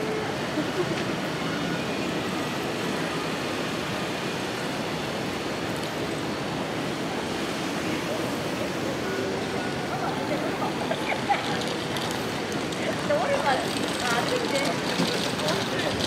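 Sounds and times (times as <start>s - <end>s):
city street ambience: 0.0s - 16.0s.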